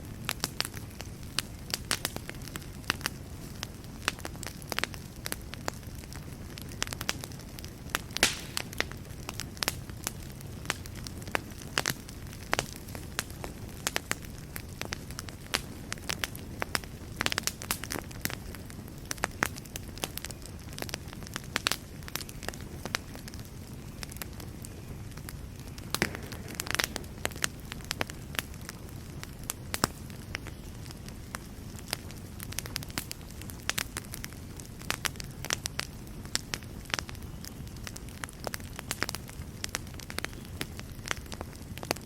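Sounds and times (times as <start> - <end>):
fire crackling and popping: 0.0 - 42.0
flames rumbling: 0.0 - 42.0.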